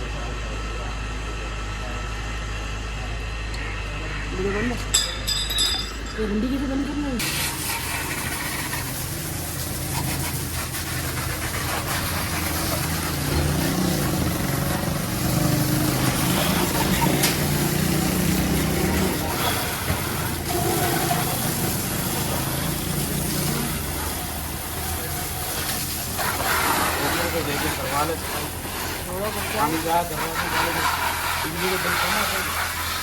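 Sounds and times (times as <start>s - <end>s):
motor humming: 2.8s - 33.0s.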